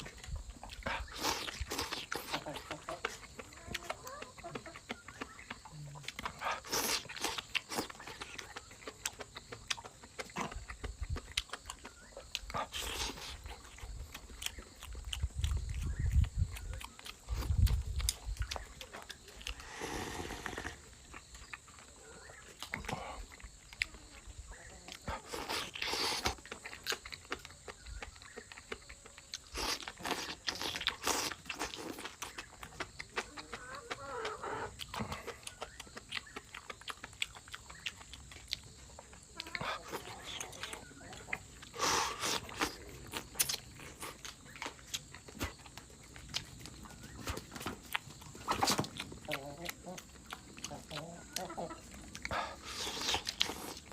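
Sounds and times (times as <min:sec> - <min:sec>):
mouth clicks: 0:00.0 - 0:53.9
person chewing food: 0:00.0 - 0:53.9.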